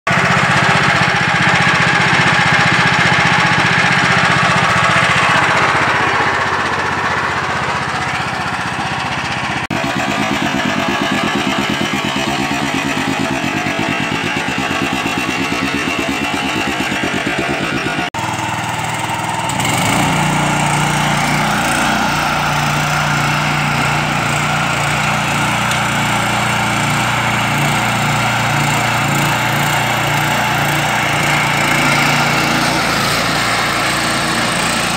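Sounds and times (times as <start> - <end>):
small engine under load: 0.1 - 34.9.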